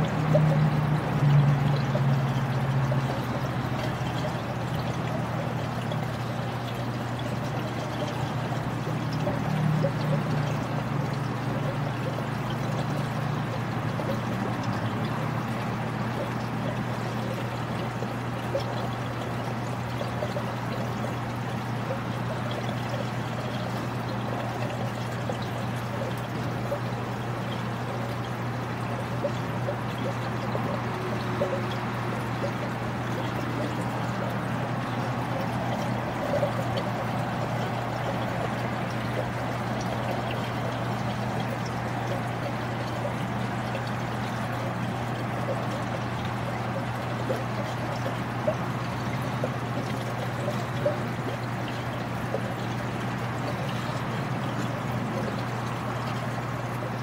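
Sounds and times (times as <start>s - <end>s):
aquarium water trickling: 0.0s - 57.0s.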